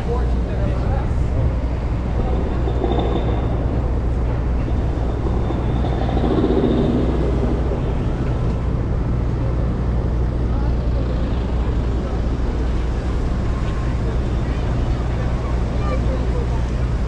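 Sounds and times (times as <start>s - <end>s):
traffic rumble of engines and tyres: 0.0s - 17.0s.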